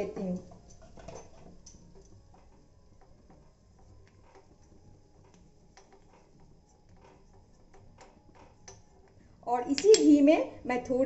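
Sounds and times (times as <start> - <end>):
hot oil ticking and clicking: 0.0 - 10.3.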